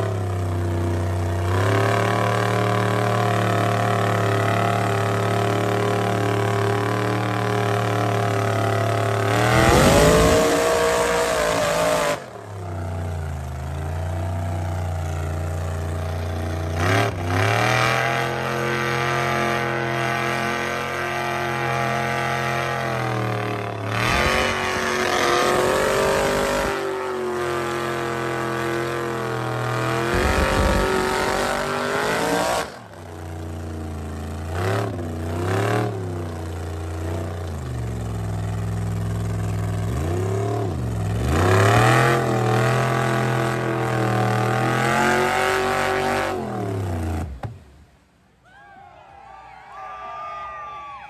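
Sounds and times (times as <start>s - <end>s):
truck engine revving: 0.0s - 48.0s.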